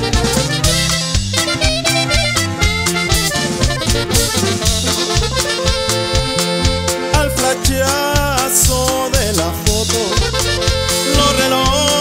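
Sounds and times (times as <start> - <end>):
latin dance music with accordion: 0.0 - 12.0.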